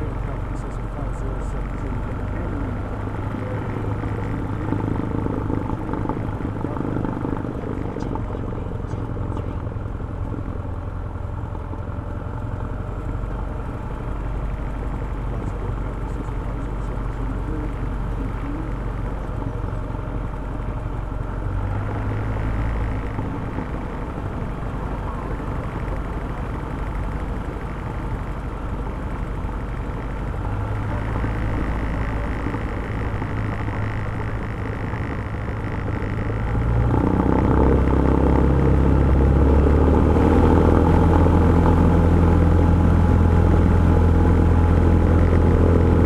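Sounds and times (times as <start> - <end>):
light aircraft engine droning: 0.0 - 46.0.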